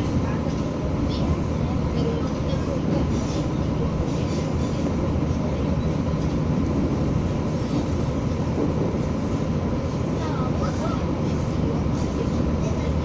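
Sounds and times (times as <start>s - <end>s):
diesel railcar engine rumble: 0.0s - 13.0s
train wheels on rail: 0.0s - 13.0s.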